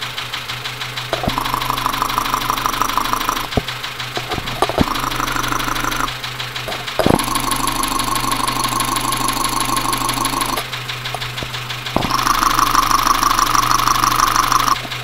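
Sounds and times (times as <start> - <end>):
engine knocking rapidly: 0.0 - 15.0
probe scraping bumps: 1.1 - 15.0.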